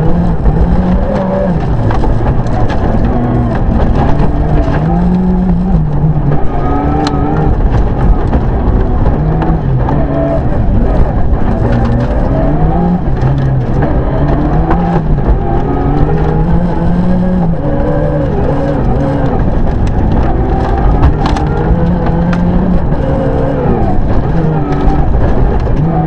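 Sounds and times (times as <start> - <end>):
car engine at full throttle: 0.0 - 26.0
gravel rattling against car: 0.0 - 26.0.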